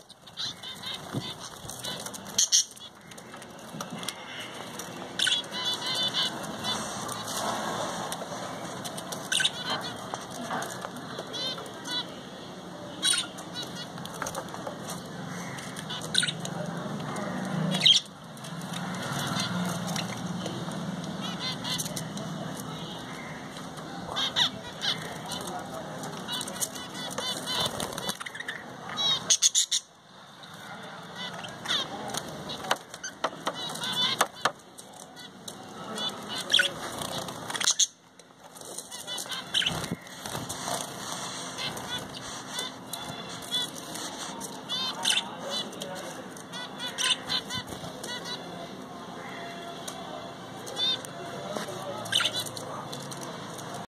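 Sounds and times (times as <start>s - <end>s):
parrots squawking and chirping: 0.0s - 12.2s, 12.9s - 20.4s, 21.1s - 38.0s, 38.6s - 53.9s.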